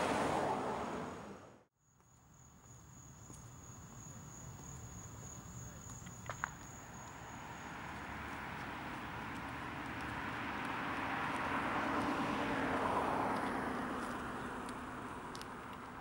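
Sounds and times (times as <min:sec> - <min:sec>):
passing traffic: 0:00.0 - 0:01.7, 0:04.6 - 0:16.0.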